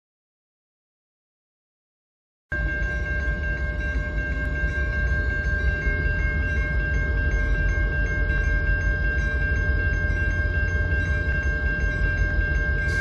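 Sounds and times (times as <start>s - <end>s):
level-crossing warning bell: 2.5s - 13.0s
train rumble: 2.5s - 13.0s.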